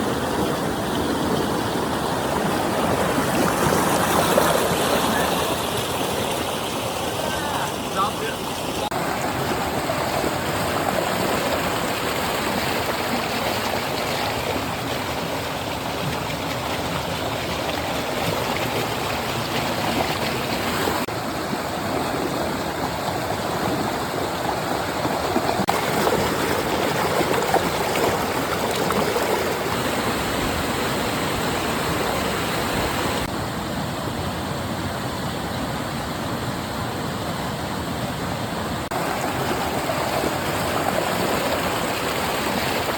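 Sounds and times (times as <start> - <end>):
stream running: 0.0 - 42.9.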